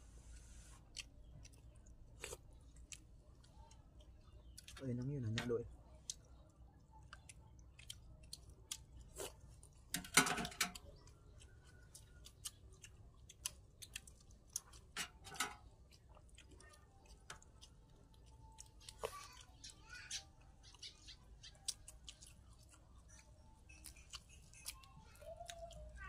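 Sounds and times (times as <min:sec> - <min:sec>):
chewing and lip smacks: 0:00.7 - 0:05.1, 0:05.8 - 0:09.9, 0:10.5 - 0:26.0.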